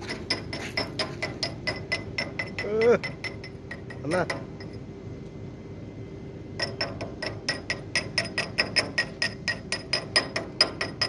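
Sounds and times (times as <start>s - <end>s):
hammer striking steel: 0.0s - 4.8s, 6.6s - 11.0s.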